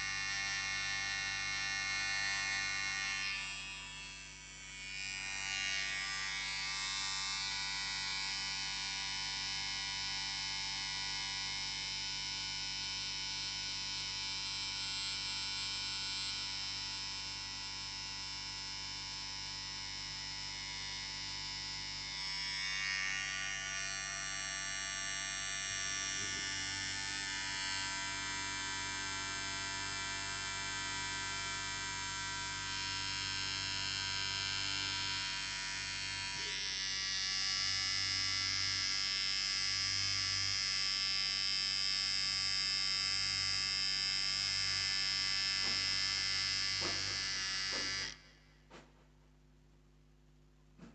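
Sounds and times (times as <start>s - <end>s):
electric beard trimmer buzzing: 0.0s - 48.8s.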